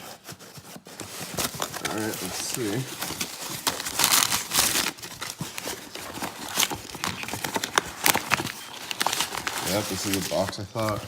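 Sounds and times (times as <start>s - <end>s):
cardboard box tearing: 0.0s - 11.0s
clicks and rustles: 0.0s - 11.0s.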